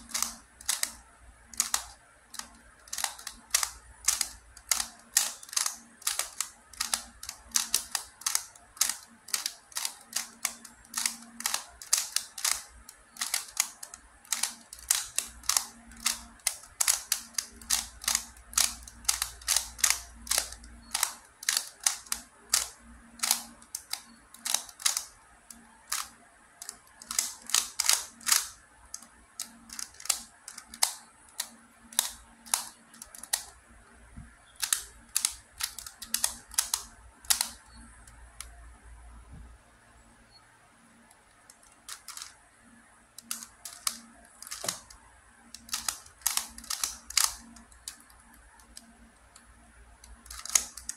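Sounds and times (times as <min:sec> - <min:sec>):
puzzle layers clicking: 0:00.0 - 0:33.6, 0:34.6 - 0:38.6, 0:41.2 - 0:42.4, 0:43.1 - 0:50.9.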